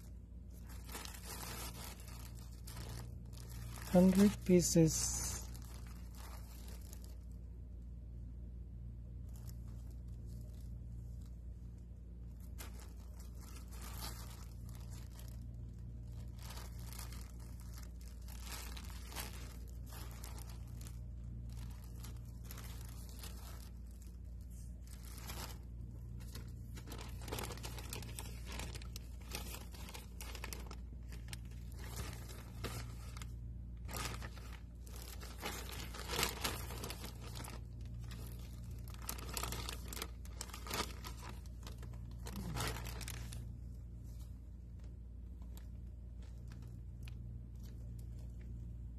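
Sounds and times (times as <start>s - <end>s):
plastic packaging crinkling: 0.0s - 8.0s, 8.8s - 48.9s.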